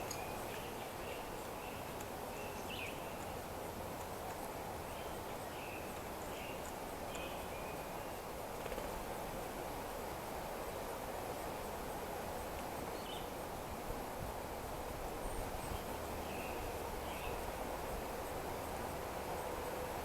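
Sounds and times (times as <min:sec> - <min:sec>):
outdoor ambience hiss: 0:00.0 - 0:20.0.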